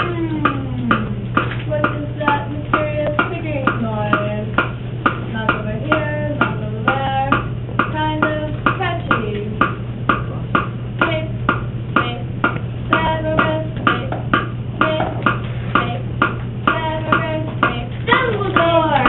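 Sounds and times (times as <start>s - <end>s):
ticking beat: 0.0s - 19.0s.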